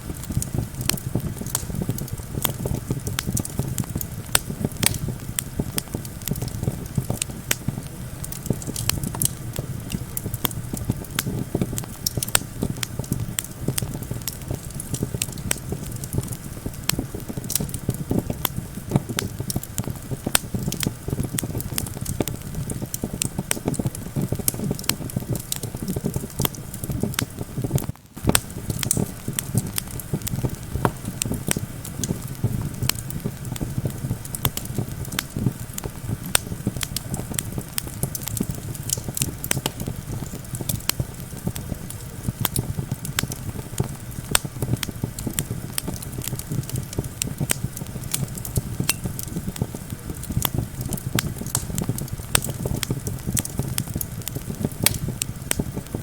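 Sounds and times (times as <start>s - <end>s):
campfire crackling and popping: 0.0s - 56.0s
low wind rumble: 0.0s - 56.0s.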